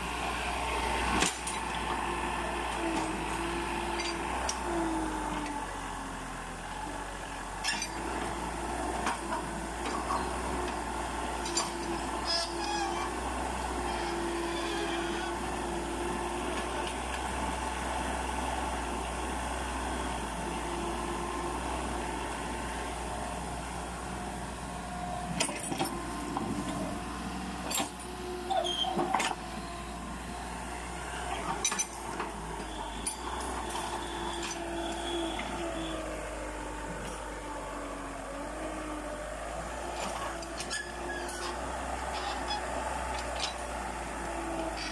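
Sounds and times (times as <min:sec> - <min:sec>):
excavator diesel engine running: 0:00.0 - 0:44.9
hydraulics working: 0:00.0 - 0:44.9.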